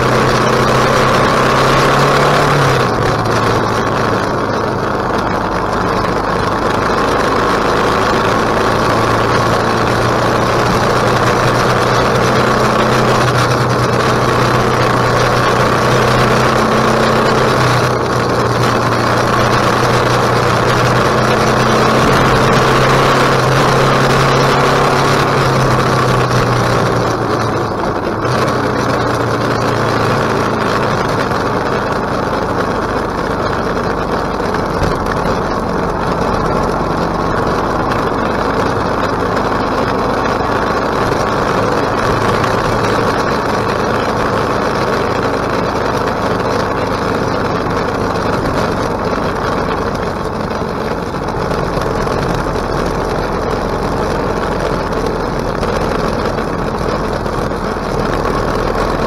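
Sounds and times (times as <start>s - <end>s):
motorcycle engine running: 0.0s - 59.0s
rushing wind noise: 0.0s - 59.0s.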